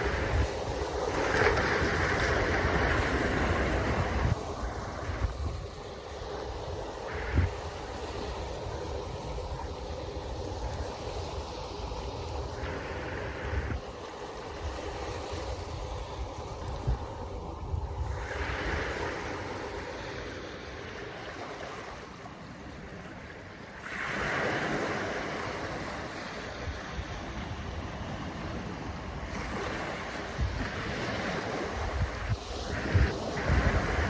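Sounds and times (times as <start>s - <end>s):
wind buffeting microphone: 0.0s - 20.1s, 26.5s - 34.0s
waves washing: 0.0s - 34.0s.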